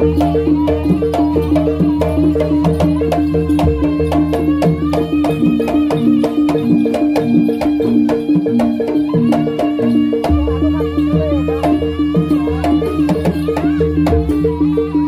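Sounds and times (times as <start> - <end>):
wavering melody line: 0.0 - 15.0.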